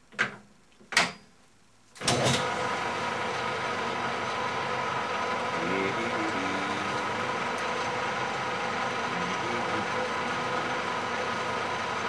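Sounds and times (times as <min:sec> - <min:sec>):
lathe motor whining: 0:02.0 - 0:12.0.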